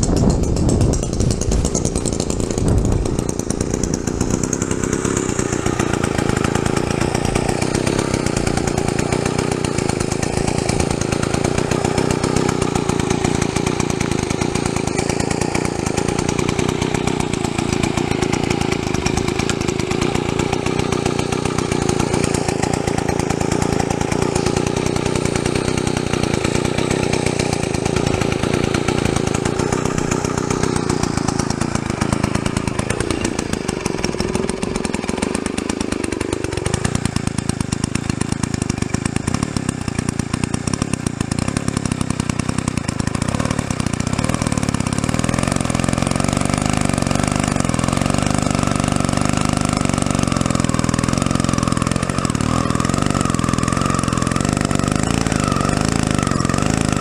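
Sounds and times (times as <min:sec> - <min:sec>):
chainsaw sawing wood: 0:00.0 - 0:57.0.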